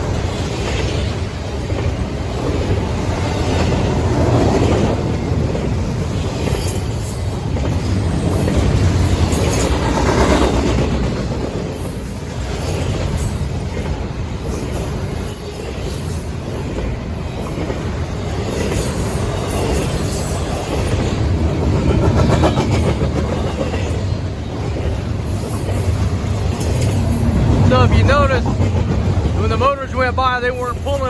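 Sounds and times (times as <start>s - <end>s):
freight train cars rolling: 0.0s - 31.0s
wheels clicking over rail joints: 0.0s - 31.0s.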